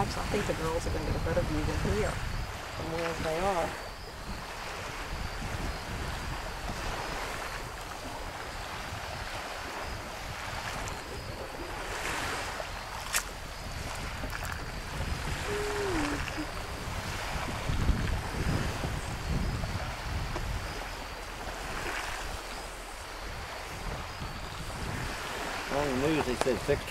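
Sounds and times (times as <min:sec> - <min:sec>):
small waves on shore: 0:00.0 - 0:26.9
wind on microphone: 0:00.0 - 0:26.9.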